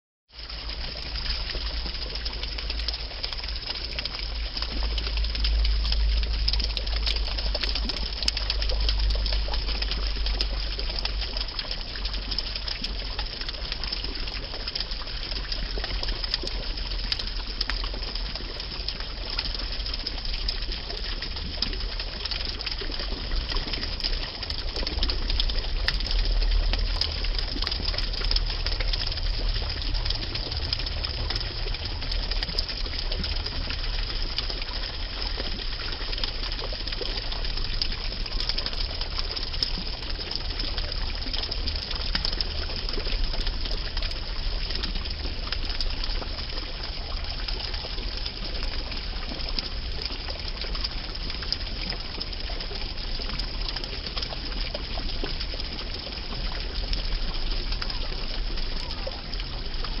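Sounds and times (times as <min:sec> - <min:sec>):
low steady hum: 0:00.4 - 0:57.1
water pouring onto leaves: 0:00.4 - 1:00.0.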